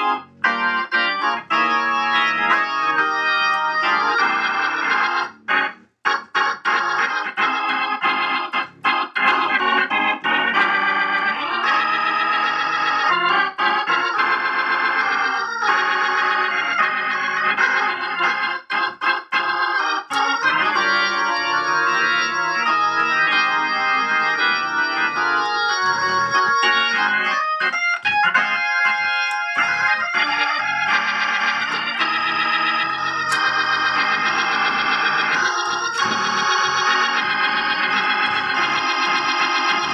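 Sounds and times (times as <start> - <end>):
organ through rotating speaker: 0.0 - 39.9.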